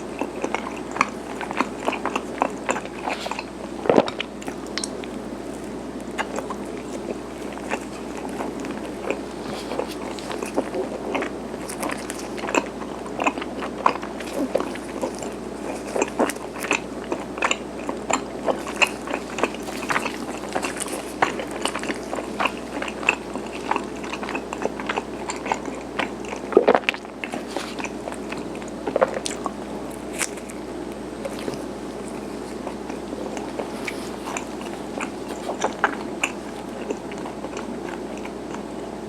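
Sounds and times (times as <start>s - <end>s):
chewing with mouth clicks: 0.0s - 39.0s.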